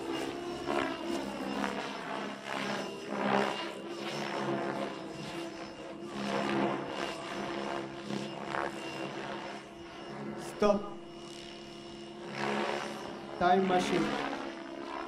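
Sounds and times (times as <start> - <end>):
radio-controlled helicopter rotor hum: 0.0 - 15.0.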